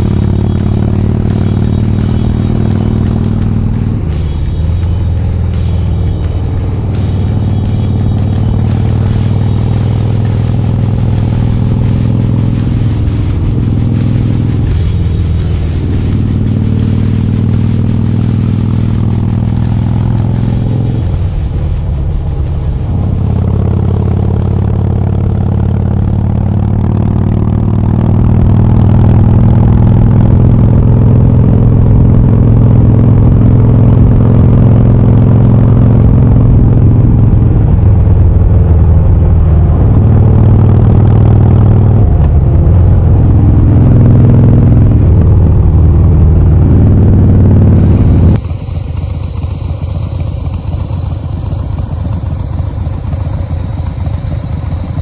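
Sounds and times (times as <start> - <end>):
motorcycle engine idling: 0.0 - 55.0
motorcycle engine running: 0.0 - 55.0.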